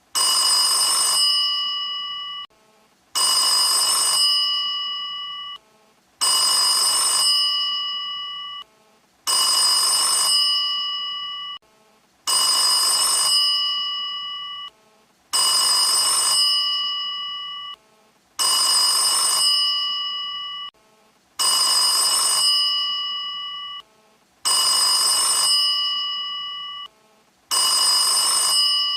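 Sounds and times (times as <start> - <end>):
telephone bell ringing: 0.2 - 2.5, 3.2 - 5.6, 6.2 - 8.7, 9.3 - 11.6, 12.3 - 14.8, 15.4 - 17.8, 18.4 - 20.8, 21.4 - 23.8, 24.5 - 26.9, 27.5 - 28.9.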